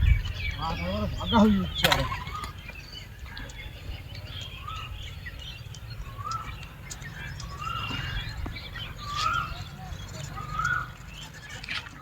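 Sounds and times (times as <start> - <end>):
steady low rumble: 0.0 - 11.2
birds calling and chirping: 0.0 - 12.0.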